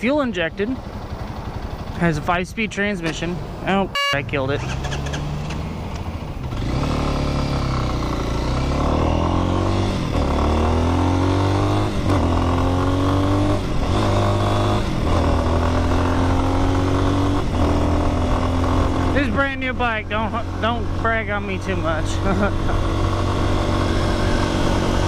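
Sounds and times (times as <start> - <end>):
motorcycle engine accelerating: 0.6 - 25.0.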